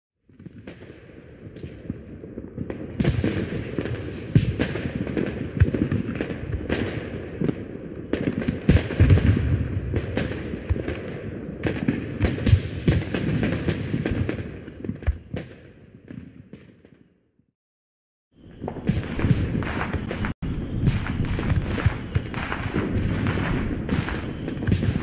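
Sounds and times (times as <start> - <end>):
fireworks bangs with echoes: 0.3 - 17.1, 18.4 - 25.0.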